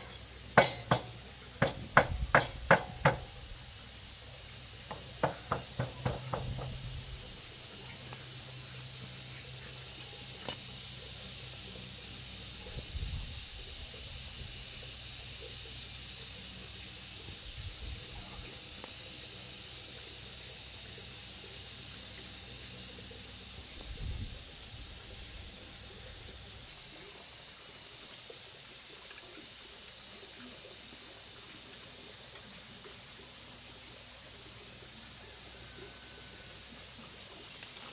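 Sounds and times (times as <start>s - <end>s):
background hiss: 0.0s - 37.9s.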